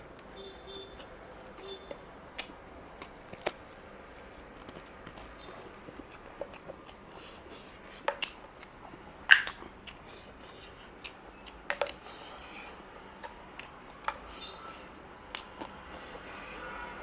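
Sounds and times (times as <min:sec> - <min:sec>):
clicks and crunches: 0:00.0 - 0:15.8
person chewing: 0:00.0 - 0:16.9.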